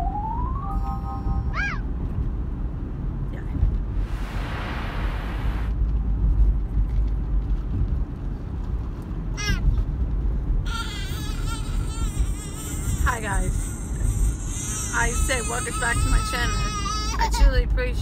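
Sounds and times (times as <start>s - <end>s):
road rumble inside a car: 0.0s - 18.0s.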